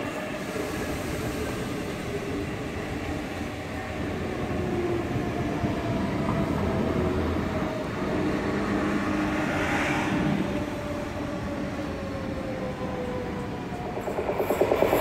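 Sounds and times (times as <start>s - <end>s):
faint train whine: 0.0s - 15.0s
train wheels rumbling on rail: 0.0s - 15.0s.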